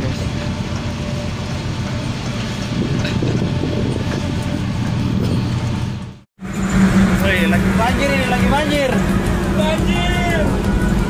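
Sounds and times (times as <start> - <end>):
low hum: 0.0 - 11.0
machinery drone: 0.0 - 11.0.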